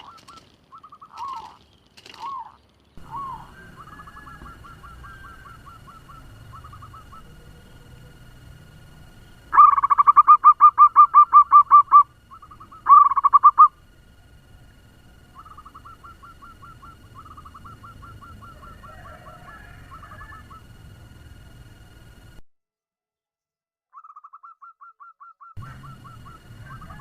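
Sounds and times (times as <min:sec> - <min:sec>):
dove cooing rapidly: 0:00.0 - 0:13.9, 0:14.5 - 0:21.8, 0:24.0 - 0:27.0.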